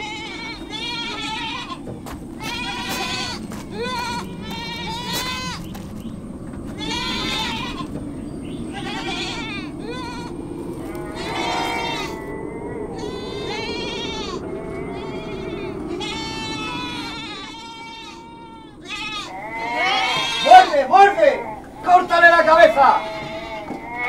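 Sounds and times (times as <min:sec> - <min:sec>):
livestock bleating: 0:00.0 - 0:05.8, 0:06.7 - 0:07.9, 0:08.6 - 0:24.0
low background noise: 0:00.0 - 0:24.0.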